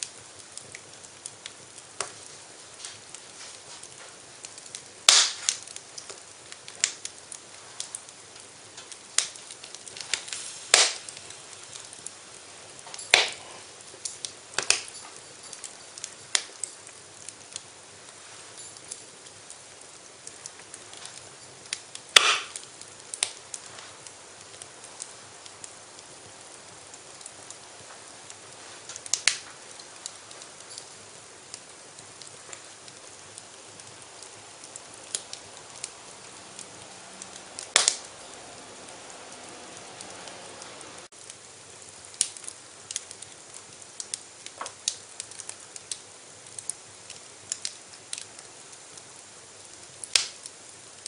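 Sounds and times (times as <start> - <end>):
loud sharp pops from fire: 0.0 - 39.4, 41.0 - 51.0
faint steady hiss: 0.0 - 51.0
wood fire crackling: 0.0 - 51.0.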